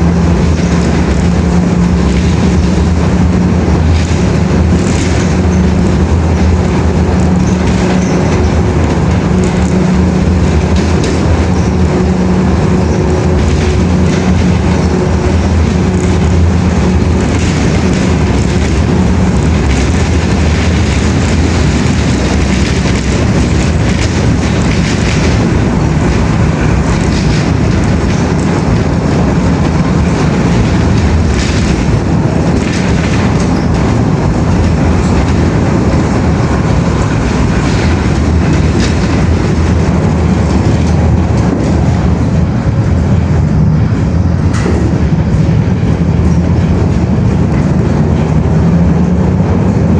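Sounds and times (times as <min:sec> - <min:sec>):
vehicle rumble in motion: 0:00.0 - 0:49.9.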